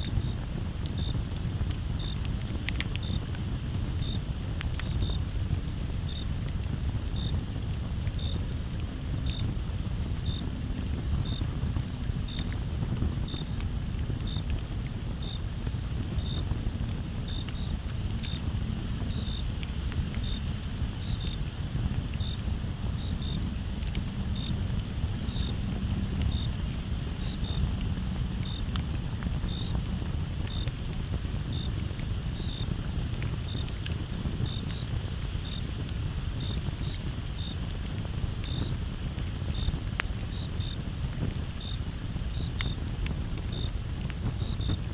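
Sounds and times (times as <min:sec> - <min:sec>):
cricket chirping: 0:00.0 - 0:05.3, 0:06.0 - 0:44.9
campfire crackling and popping: 0:00.0 - 0:44.9
chorus of crickets: 0:00.0 - 0:44.9.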